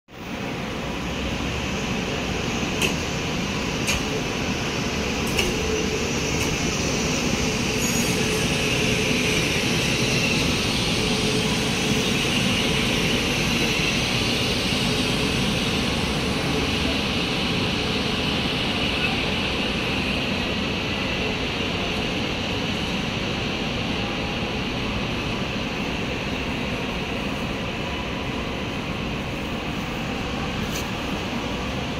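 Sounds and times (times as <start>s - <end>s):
train rumbling and hissing: 0.1s - 31.9s.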